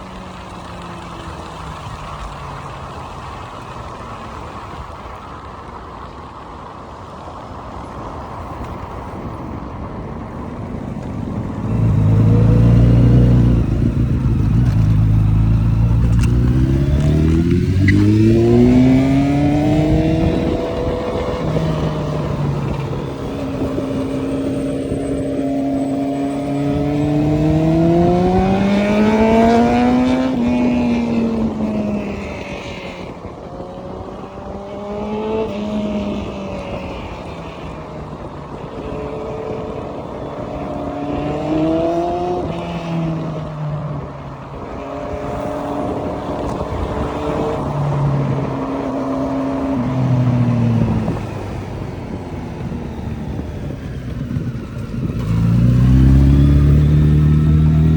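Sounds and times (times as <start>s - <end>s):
wind rush: 7.6s - 57.9s
motorcycle engine accelerating: 7.7s - 57.9s.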